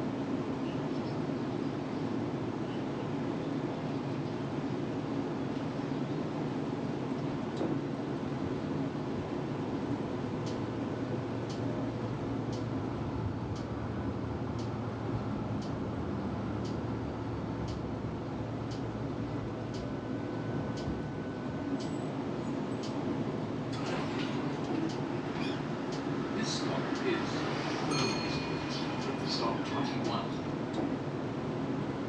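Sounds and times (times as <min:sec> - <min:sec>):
tram rumbling on tracks: 0:00.0 - 0:32.0.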